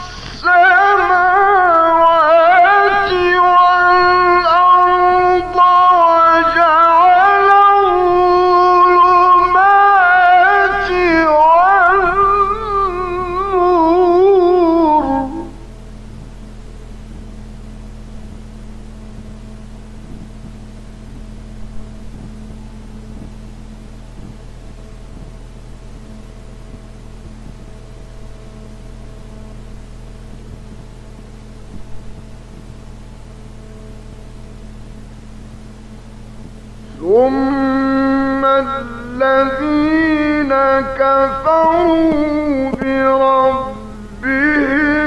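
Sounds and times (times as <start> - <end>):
low even hum: 0.0 - 45.0
recording hiss: 0.0 - 45.0.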